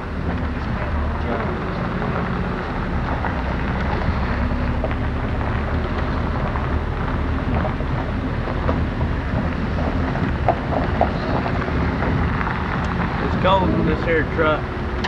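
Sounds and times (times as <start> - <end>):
truck engine and road rumble: 0.0 - 15.0
wind buffeting microphone: 0.0 - 15.0.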